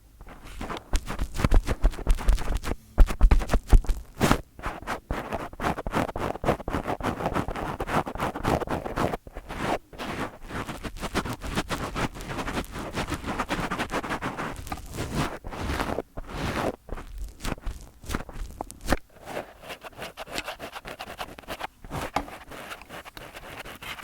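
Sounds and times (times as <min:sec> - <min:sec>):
fingers scratching a microphone: 0:00.2 - 0:24.0.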